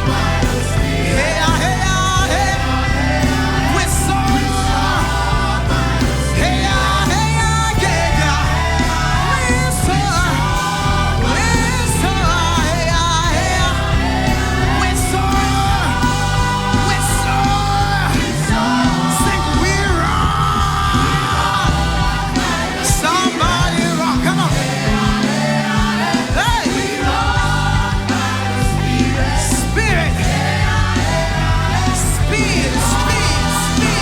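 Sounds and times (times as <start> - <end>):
gospel band playing: 0.0 - 34.0
people singing: 0.0 - 34.0.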